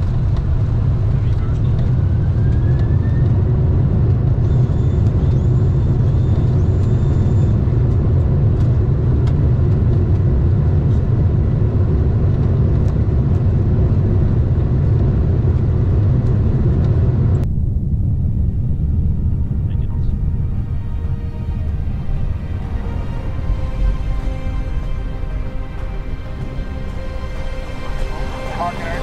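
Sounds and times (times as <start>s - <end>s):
aircraft landing rumble: 0.0s - 29.0s.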